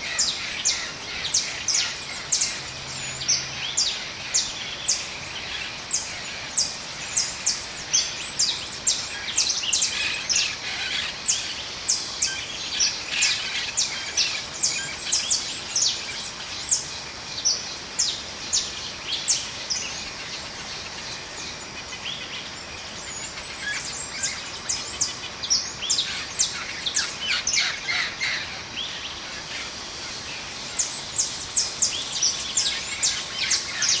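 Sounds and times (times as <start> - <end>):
outdoor hiss: 0.0 - 34.0.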